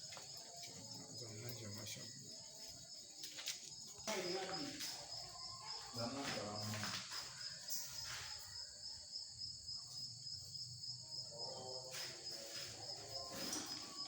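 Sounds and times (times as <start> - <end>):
high-pitched insect trilling: 0.0 - 14.0.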